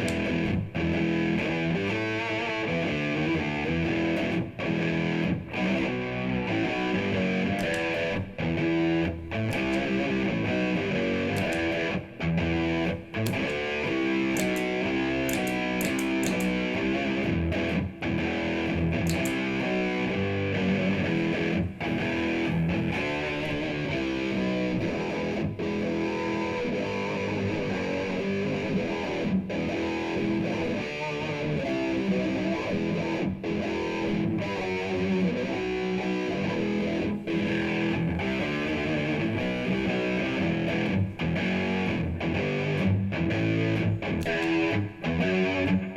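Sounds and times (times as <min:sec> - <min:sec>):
electric guitar strummed chords: 0:00.0 - 0:45.9.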